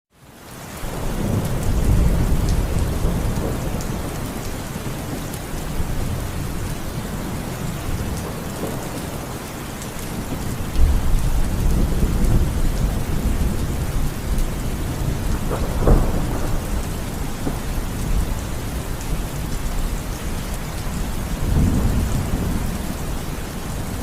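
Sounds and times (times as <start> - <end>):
steady rain falling: 0.2 - 24.0
rolling thunder: 0.9 - 9.2, 10.2 - 24.0.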